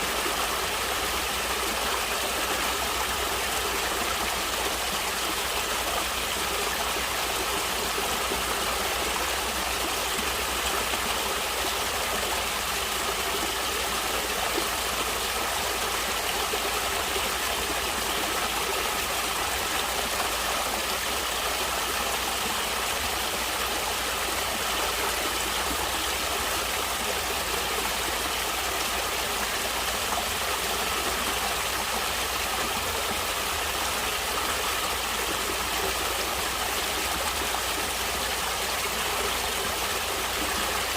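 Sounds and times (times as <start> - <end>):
running water flowing: 0.0 - 40.9.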